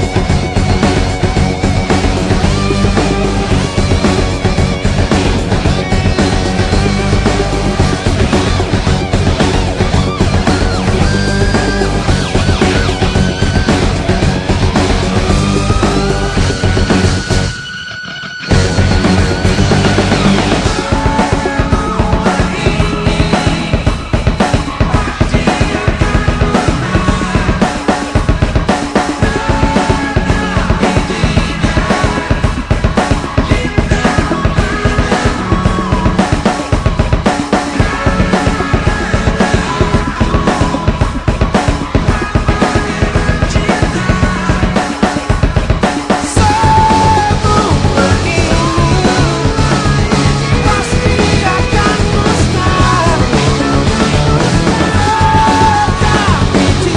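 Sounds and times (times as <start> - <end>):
fast rock music: 0.0 - 56.9.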